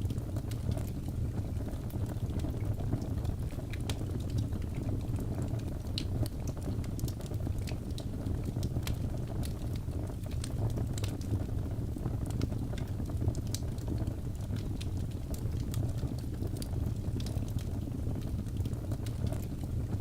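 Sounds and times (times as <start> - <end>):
fire crackling and popping: 0.0 - 20.0
low rush of flames: 0.0 - 20.0.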